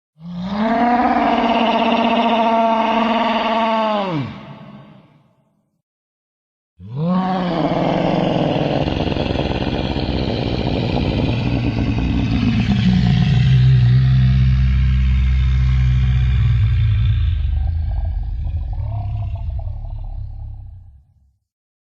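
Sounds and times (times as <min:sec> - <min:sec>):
deep rumbling creature growl: 0:00.2 - 0:05.2, 0:06.8 - 0:21.3.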